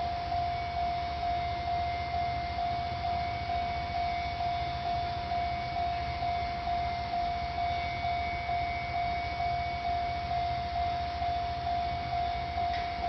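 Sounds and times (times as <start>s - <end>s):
level-crossing warning bell ringing: 0.0s - 13.0s.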